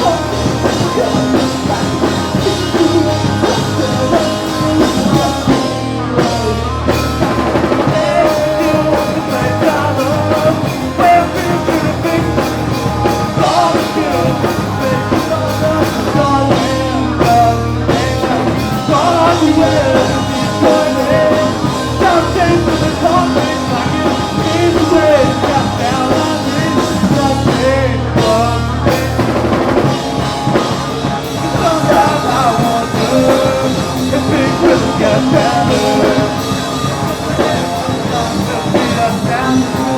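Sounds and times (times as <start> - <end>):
distorted guitars and bass: 0.0 - 39.9
drum kit: 0.0 - 39.9
person singing: 0.0 - 39.9.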